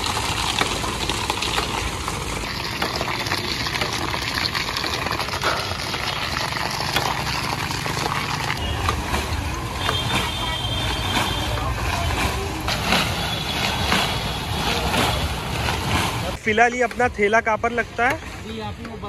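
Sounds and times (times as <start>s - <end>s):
machinery and traffic hum: 0.0s - 19.0s.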